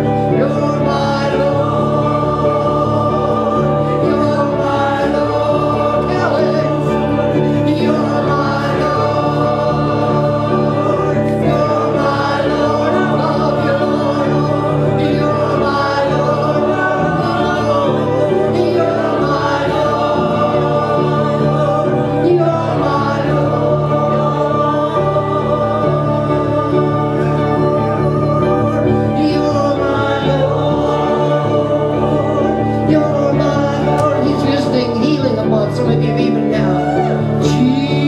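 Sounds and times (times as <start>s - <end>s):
man singing: 0.0s - 38.0s.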